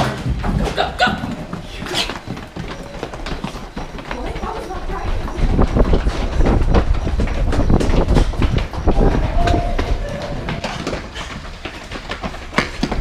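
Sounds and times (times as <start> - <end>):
people running footfalls: 0.0 - 13.0.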